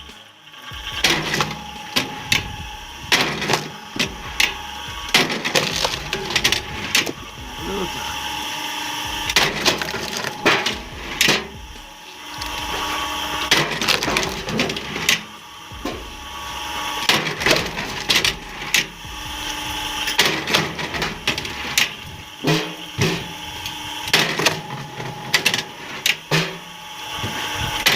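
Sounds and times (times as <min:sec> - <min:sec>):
steady machine hum: 0:00.0 - 0:27.9.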